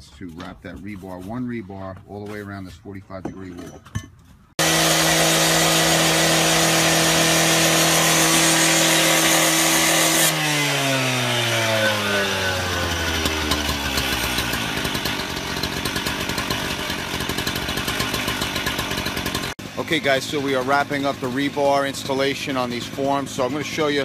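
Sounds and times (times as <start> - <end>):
two-stroke cut-off saw running: 4.6 - 24.0.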